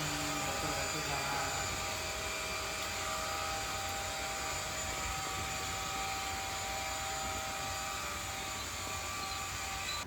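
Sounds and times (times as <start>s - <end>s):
small electric motor humming: 0.0s - 10.0s.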